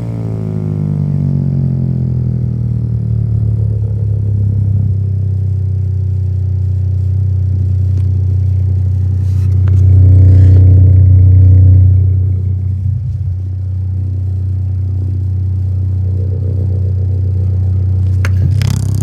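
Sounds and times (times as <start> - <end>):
deep subwoofer bass note: 0.0 - 19.0.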